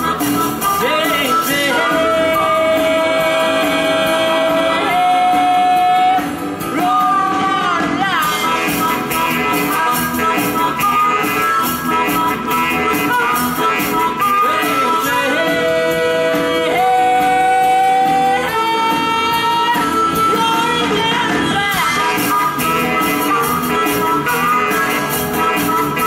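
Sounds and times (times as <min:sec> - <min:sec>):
blues band playing: 0:00.0 - 0:26.0
lead guitar bending notes: 0:00.0 - 0:26.0.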